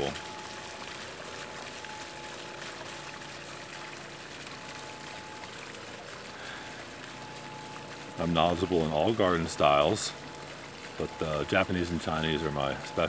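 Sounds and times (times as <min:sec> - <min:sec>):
fountain water trickling splash: 0:00.0 - 0:13.0.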